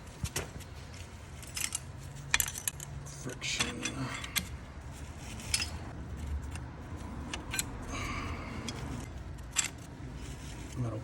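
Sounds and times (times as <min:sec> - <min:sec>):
metal clutch plates clinking: 0:00.2 - 0:04.6, 0:05.2 - 0:11.0.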